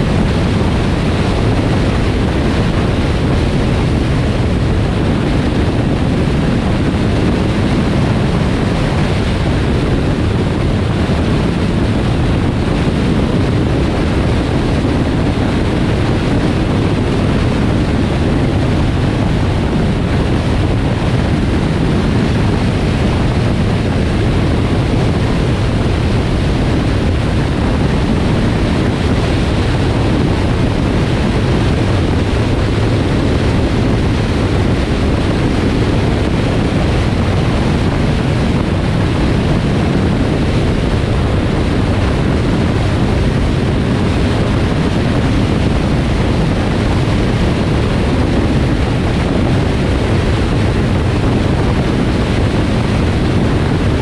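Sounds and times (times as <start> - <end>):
wind and tyre noise: 0.0 - 54.0.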